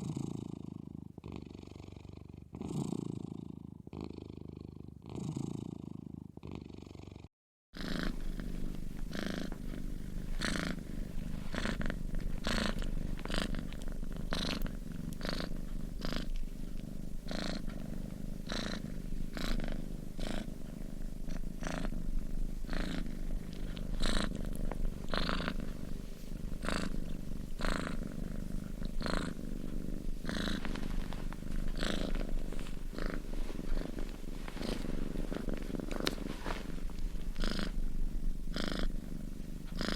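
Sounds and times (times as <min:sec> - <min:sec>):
cat snoring: 0:00.0 - 0:39.9.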